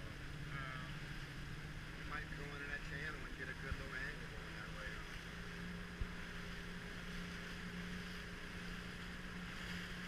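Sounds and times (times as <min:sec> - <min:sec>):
motorboat engine running: 0:00.0 - 0:10.0
rushing water: 0:00.0 - 0:10.0.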